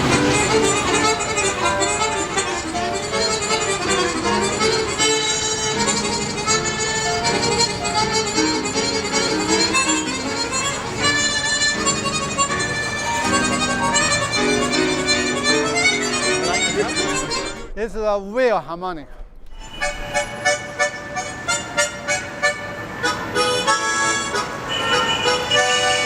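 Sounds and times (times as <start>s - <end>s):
chromatic harmonica playing: 0.0s - 17.7s, 19.6s - 26.0s.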